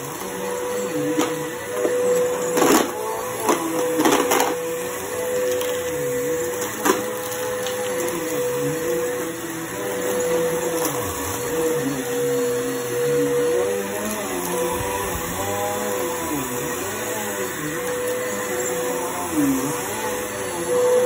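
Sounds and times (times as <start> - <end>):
vacuum cleaner running on rug: 0.0 - 21.0.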